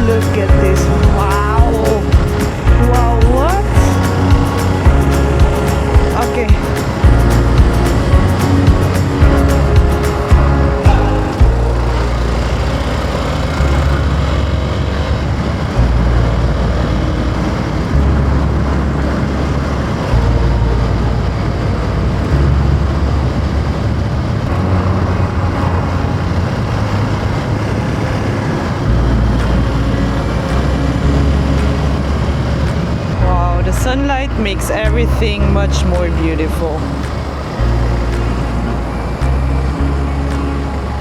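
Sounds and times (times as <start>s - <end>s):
motorcycle engine running: 0.0s - 41.0s
wind noise on microphone: 0.0s - 41.0s.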